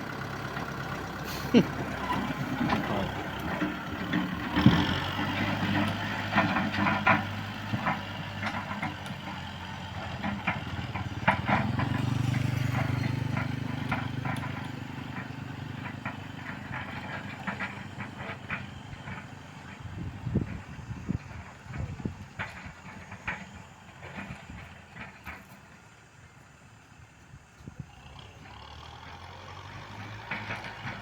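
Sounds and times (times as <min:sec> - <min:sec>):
tractor diesel engine running: 0:00.0 - 0:31.0
clanks and rattles: 0:00.5 - 0:26.2, 0:29.8 - 0:31.0.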